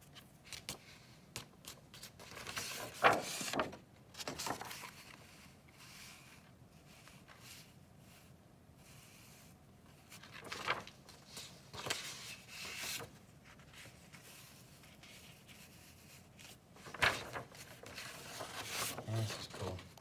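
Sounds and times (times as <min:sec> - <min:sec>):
paper rustling: 0:00.0 - 0:07.8, 0:09.0 - 0:20.0.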